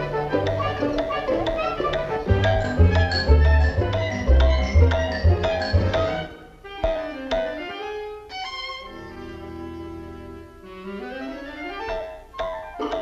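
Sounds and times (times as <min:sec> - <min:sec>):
orchestral cartoon music: 0:00.0 - 0:13.0.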